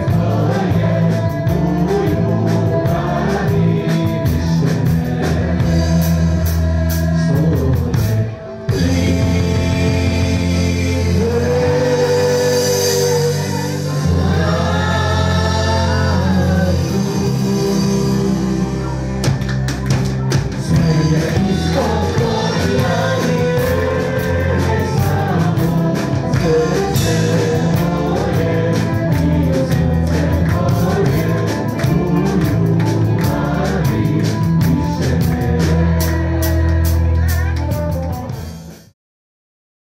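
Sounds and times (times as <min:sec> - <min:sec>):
song with bass and drum beat: 0:00.0 - 0:38.9.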